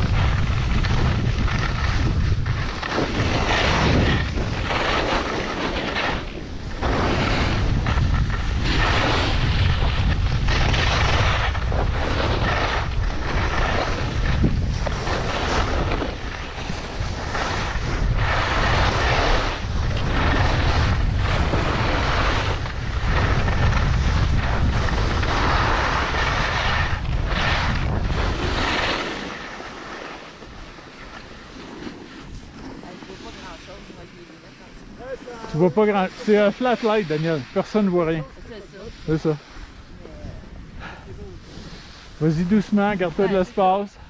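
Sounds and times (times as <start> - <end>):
skis hissing on snow: 0.0 - 44.0
wind rumbling on microphone: 0.0 - 44.0.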